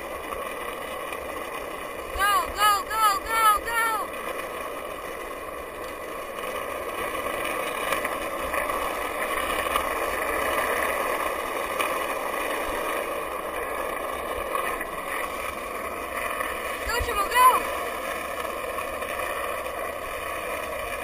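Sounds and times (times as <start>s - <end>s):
skateboard wheels rolling on asphalt: 0.0s - 21.0s.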